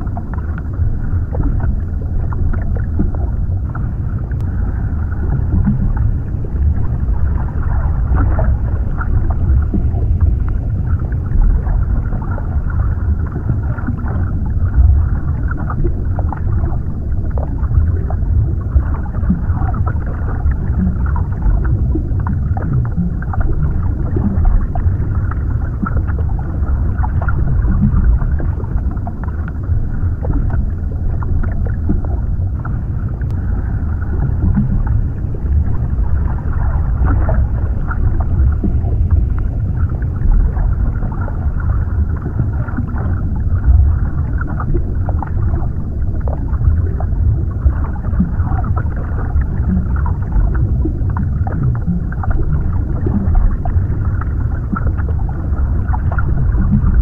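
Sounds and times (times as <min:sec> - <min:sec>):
deep underwater rumble: 0:00.0 - 0:57.0.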